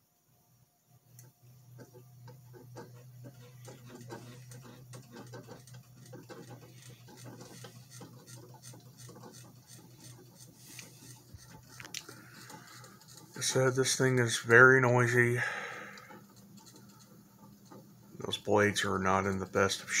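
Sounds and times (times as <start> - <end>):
ceiling fan motor humming: 0.0 - 20.0
fan clicking and ticking: 1.1 - 20.0.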